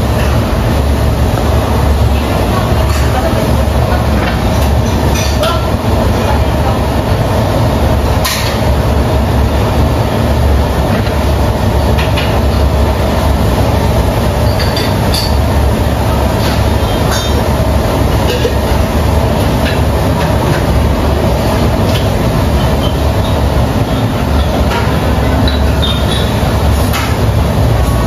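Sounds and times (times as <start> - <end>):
gas wok burners roaring: 0.0 - 28.0.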